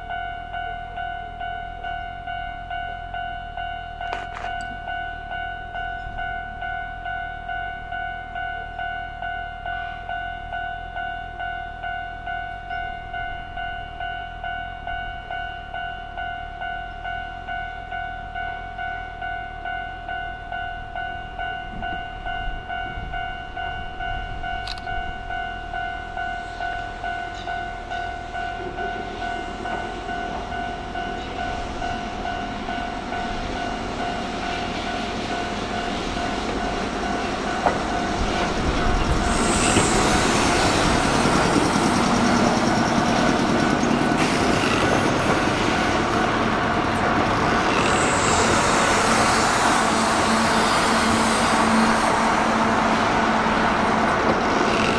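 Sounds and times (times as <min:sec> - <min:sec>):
level-crossing bell ringing: 0:00.0 - 0:44.2, 0:47.7 - 0:52.7
electric train passing: 0:00.0 - 0:54.9.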